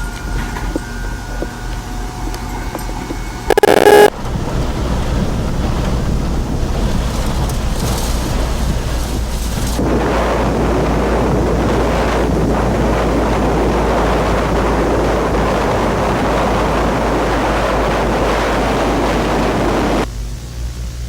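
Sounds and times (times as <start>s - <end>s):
rushing storm wind: 0.0s - 20.1s
deep rumble: 0.0s - 21.0s.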